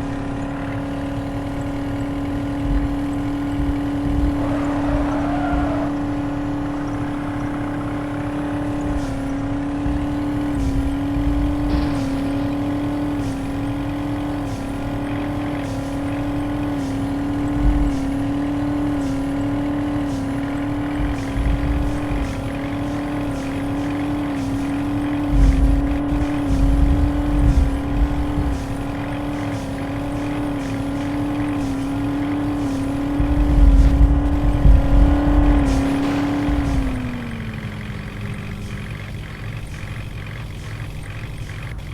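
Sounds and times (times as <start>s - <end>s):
truck engine droning: 0.0s - 41.9s.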